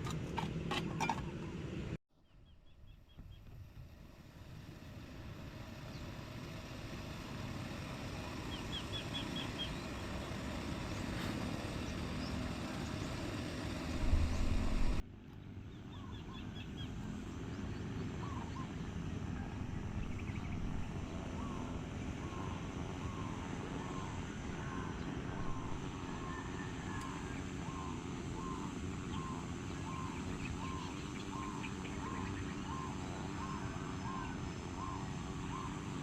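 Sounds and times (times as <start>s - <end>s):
birds chirping: 5.5s - 36.0s.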